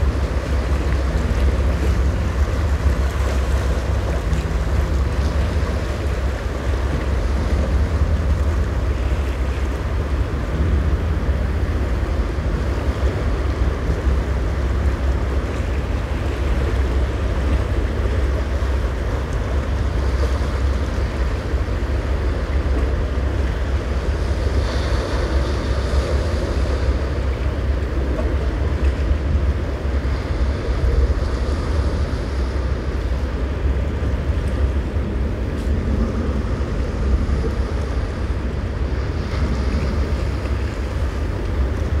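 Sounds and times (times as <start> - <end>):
storm wind buffeting microphone: 0.0 - 42.0
surf washing against rocks: 0.0 - 42.0.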